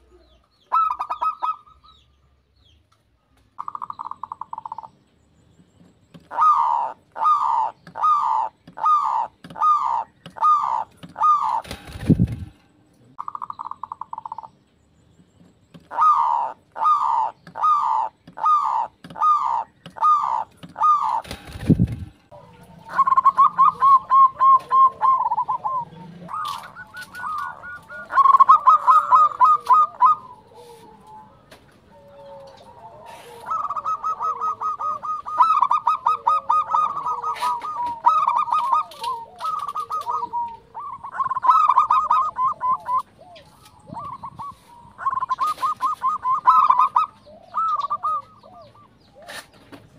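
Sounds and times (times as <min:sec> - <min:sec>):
dove cooing: 0:00.0 - 0:01.9, 0:03.6 - 0:05.0, 0:06.2 - 0:14.5, 0:15.8 - 0:49.8.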